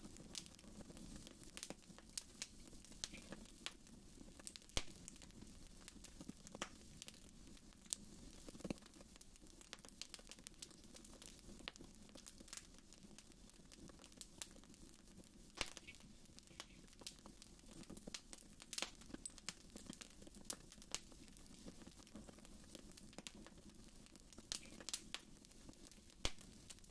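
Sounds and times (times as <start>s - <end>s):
fire pops and snaps: 0.0s - 26.9s
flames rustling: 0.0s - 26.9s.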